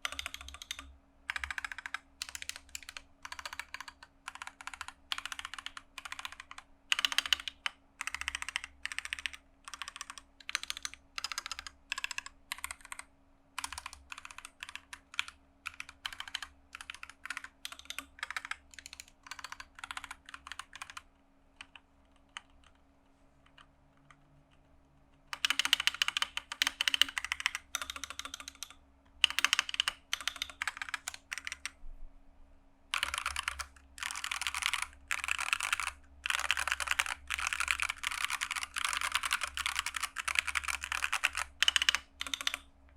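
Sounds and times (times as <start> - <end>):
mechanical keyboard key presses: 0.0 - 13.0, 13.6 - 21.0, 25.3 - 31.8, 33.0 - 42.6.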